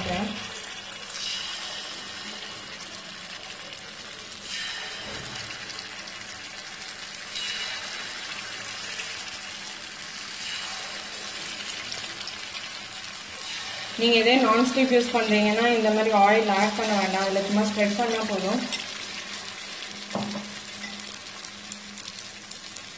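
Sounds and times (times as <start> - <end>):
batter sizzling in oil: 0.0 - 22.9.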